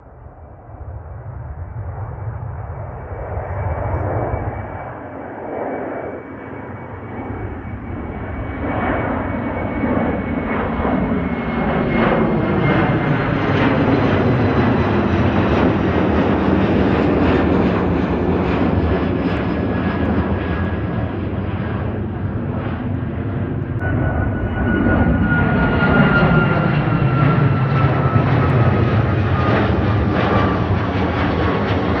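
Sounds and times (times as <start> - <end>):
jet engines at takeoff: 0.0 - 32.0.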